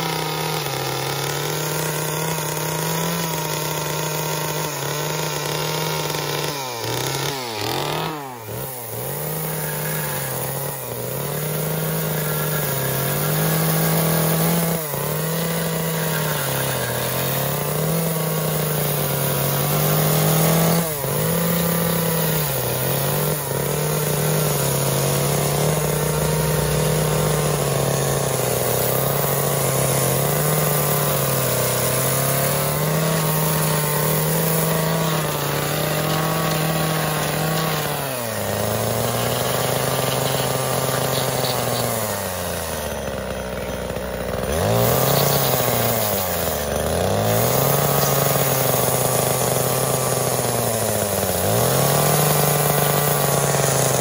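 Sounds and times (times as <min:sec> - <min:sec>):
chainsaw carving wood: 0:00.0 - 0:54.0.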